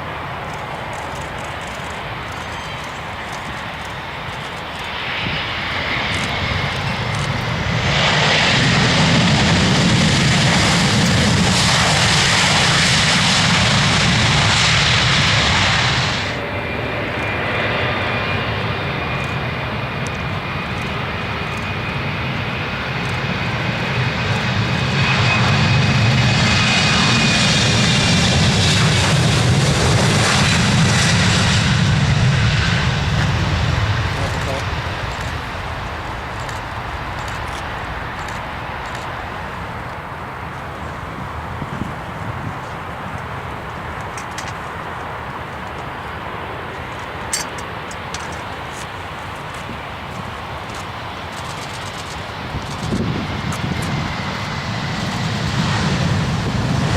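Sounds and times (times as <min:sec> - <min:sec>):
airliner engines roaring: 0:00.0 - 0:56.9
high engine whine: 0:00.0 - 0:56.9.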